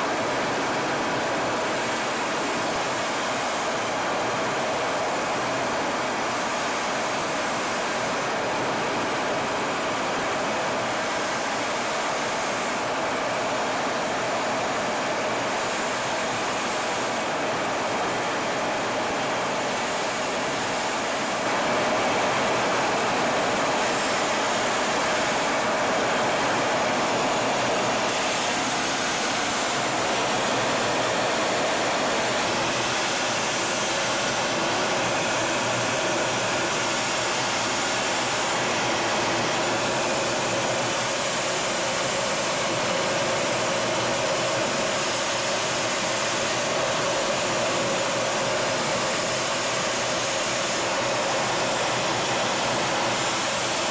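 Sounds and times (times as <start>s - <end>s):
jet engine rushing in cockpit: 0.0s - 53.9s.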